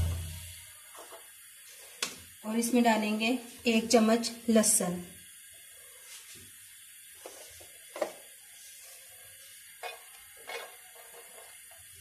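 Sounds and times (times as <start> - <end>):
oil hissing in frying pan: 0.0 - 12.0.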